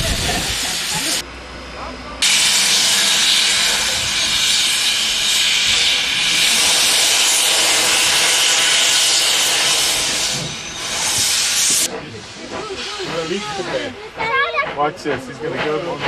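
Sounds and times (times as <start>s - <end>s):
steam locomotive venting steam: 0.0s - 1.2s, 2.2s - 16.0s.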